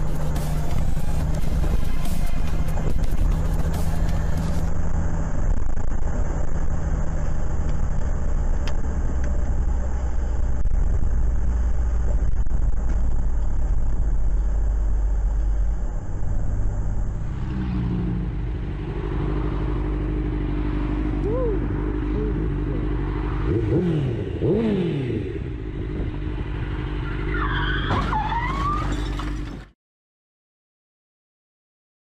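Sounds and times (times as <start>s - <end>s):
motorcycle engine running: 0.0s - 27.2s
car interior road noise: 0.0s - 29.7s.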